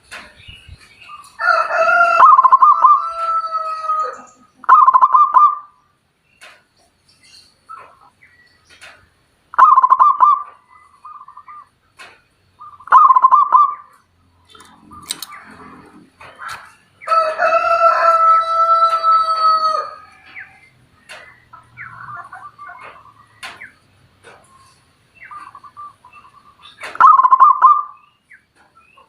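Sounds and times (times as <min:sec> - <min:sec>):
bird calling: 0:00.0 - 0:18.1, 0:18.8 - 0:29.0.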